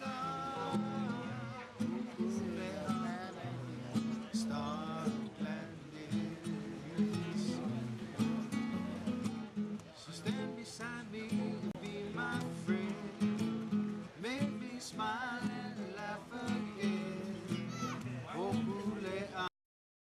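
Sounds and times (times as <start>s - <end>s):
acoustic guitar strumming: 0.0s - 19.5s.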